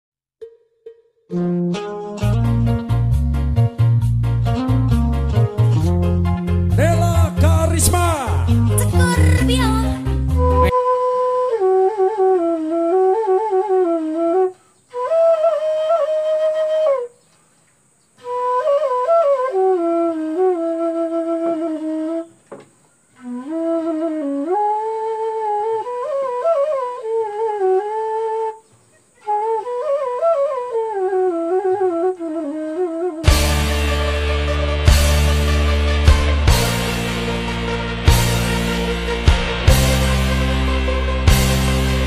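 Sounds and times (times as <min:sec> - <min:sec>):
bamboo flute melody: 0:04.5 - 0:17.3, 0:18.2 - 0:22.4, 0:23.1 - 0:42.0.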